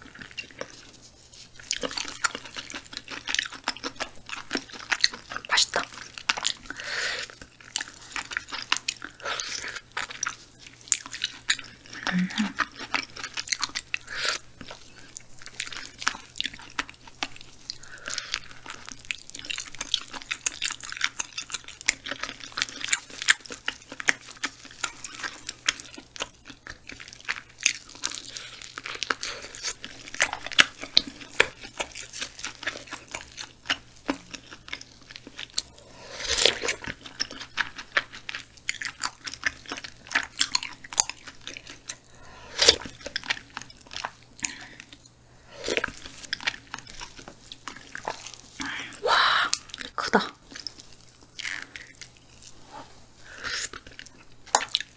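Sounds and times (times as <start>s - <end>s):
chewing and biting: 0.0s - 48.8s, 49.6s - 52.6s, 53.4s - 54.9s.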